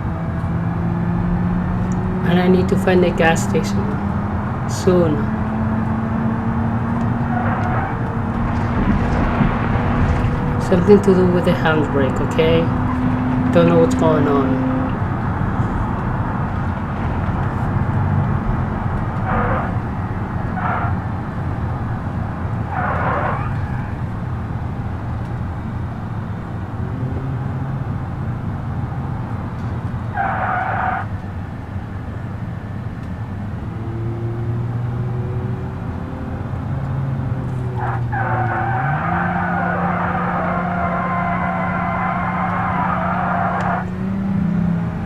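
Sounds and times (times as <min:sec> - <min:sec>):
minivan engine running: 0:00.0 - 0:45.0.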